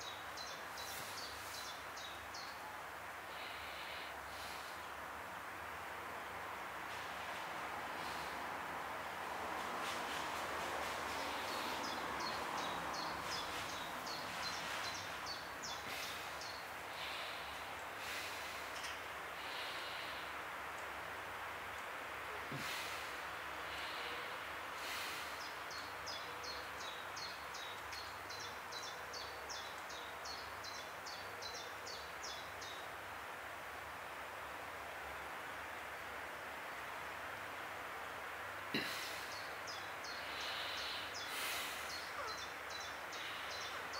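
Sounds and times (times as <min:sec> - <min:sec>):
distant background rush: 0:00.0 - 0:43.9
steady background hiss: 0:00.0 - 0:43.9.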